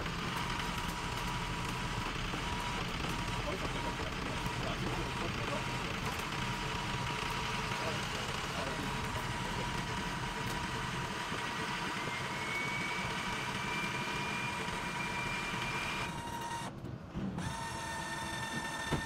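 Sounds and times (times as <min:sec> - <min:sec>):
diesel engine idling: 0:00.0 - 0:16.1
high engine whine: 0:00.0 - 0:19.0.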